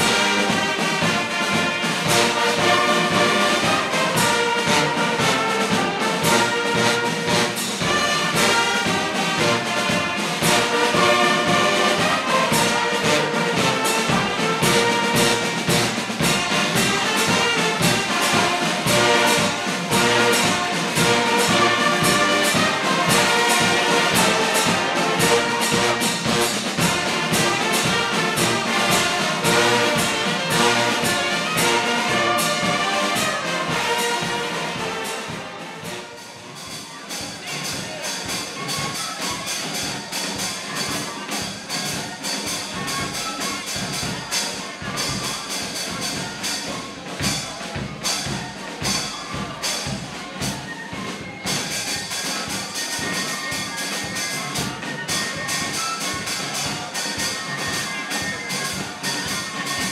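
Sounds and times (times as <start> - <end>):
brass band playing a march: 0.0 - 59.9.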